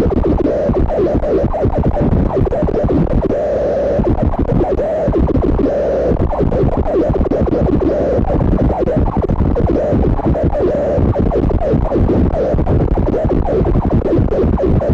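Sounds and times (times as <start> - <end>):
harsh distortion noise music: 0.0 - 14.9.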